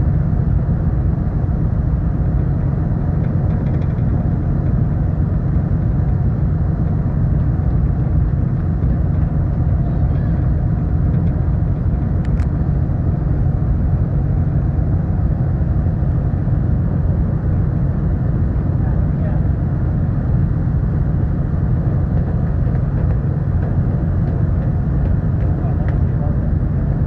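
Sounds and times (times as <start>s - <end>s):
ferry engines droning: 0.0s - 27.0s.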